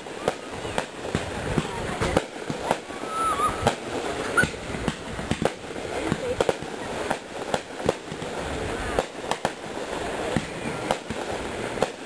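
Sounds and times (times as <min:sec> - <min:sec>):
fireworks shells bursting: 0:00.0 - 0:12.0.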